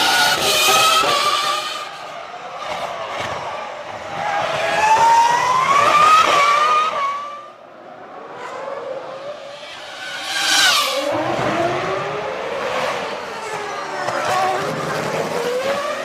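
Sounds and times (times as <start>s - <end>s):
racing cars passing at high revs: 0.0s - 16.0s.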